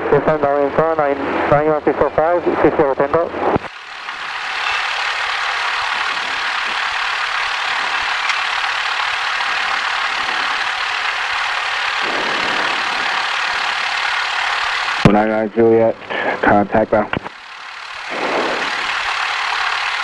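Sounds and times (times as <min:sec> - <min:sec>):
small plane engine idling: 0:03.6 - 0:20.0
steady headset hiss: 0:03.6 - 0:20.0.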